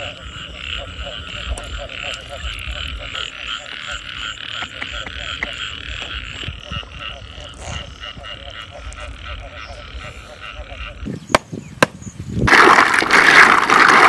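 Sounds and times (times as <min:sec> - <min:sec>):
frogs croaking: 0:00.0 - 0:12.2.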